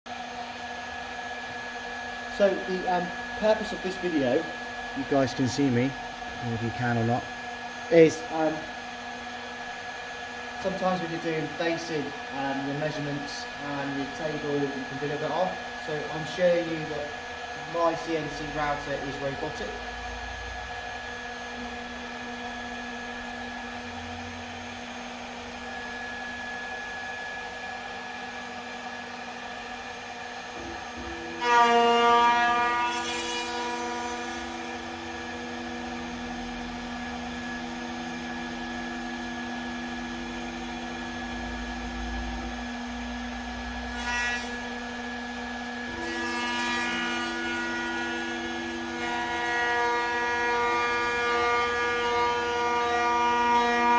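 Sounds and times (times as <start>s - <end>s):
cnc router motors whining: 0.1s - 53.9s.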